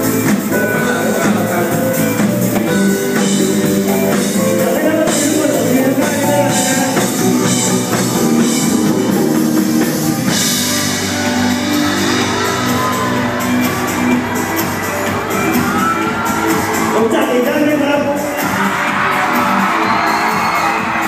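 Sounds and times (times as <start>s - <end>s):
drum kit: 0.0s - 21.0s
keyboards: 0.0s - 21.0s
live band playing loudly: 0.0s - 21.0s.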